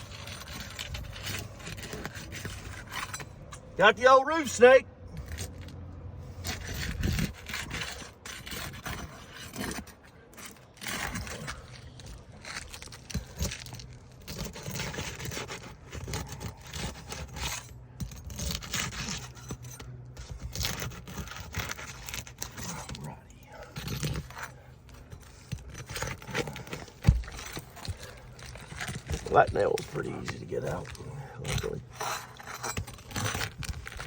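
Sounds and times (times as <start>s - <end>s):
roof snake scraping under shingles: 0.0s - 4.6s, 5.2s - 34.0s.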